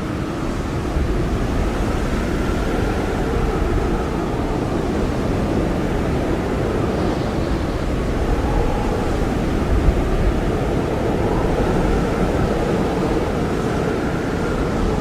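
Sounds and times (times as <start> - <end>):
blizzard wind rushing: 0.0 - 15.0
faint wind whistling: 0.0 - 15.0.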